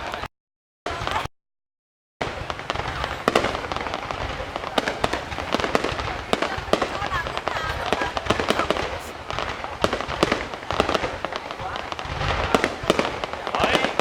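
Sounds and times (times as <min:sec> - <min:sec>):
fireworks cracks and bangs: 0:00.0 - 0:00.3, 0:00.9 - 0:01.3, 0:02.2 - 0:14.0.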